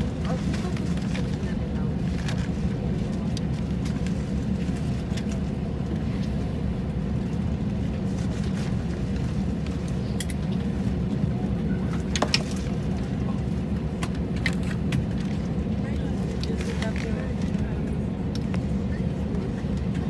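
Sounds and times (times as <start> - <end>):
aircraft cabin low rumble: 0.0 - 20.0.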